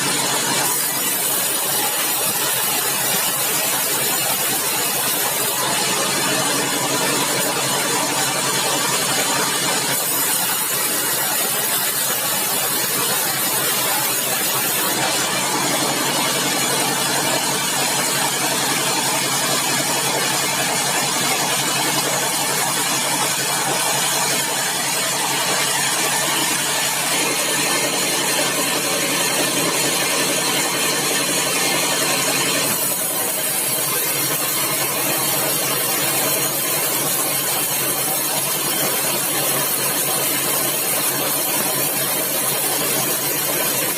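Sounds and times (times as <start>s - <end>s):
sawmill engine and saw running: 0.0s - 43.9s.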